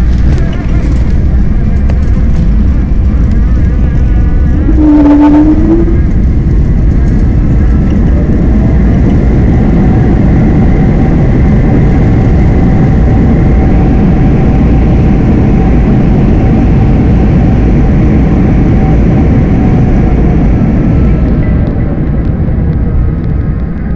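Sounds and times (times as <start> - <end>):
airplane engines roaring: 0.0 - 23.9
faint steady whine: 0.0 - 23.9.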